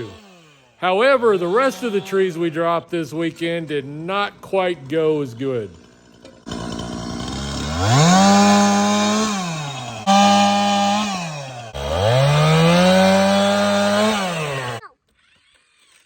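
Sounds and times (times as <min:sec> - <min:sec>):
chainsaw revving cutting wood: 0:00.0 - 0:14.9.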